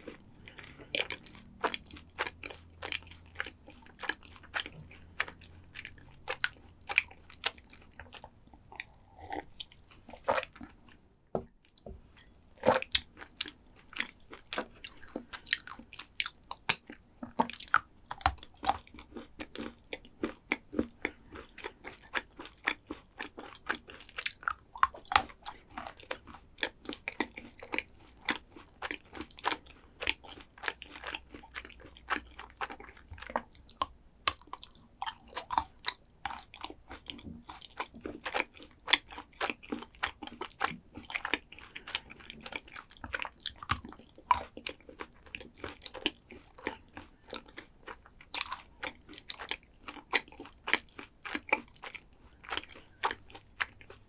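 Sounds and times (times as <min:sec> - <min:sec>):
crunchy chewing and biting: 0:00.0 - 0:10.7, 0:12.6 - 0:54.0.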